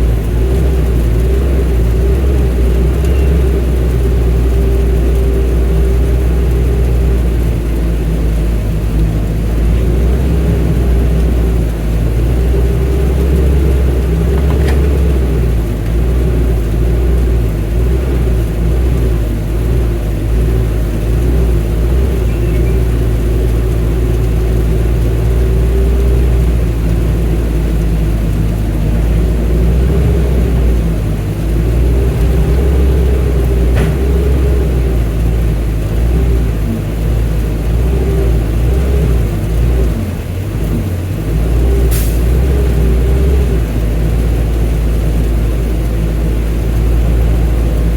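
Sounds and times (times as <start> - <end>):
excavator diesel engine rumbling: 0.0 - 47.9.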